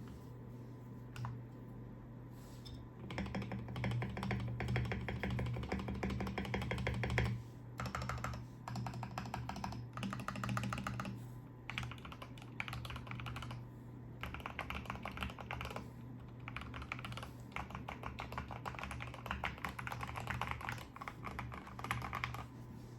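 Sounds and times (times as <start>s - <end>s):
steady low hum: 0.0s - 22.9s
fast mechanical keyboard typing: 3.0s - 13.6s, 14.2s - 22.5s.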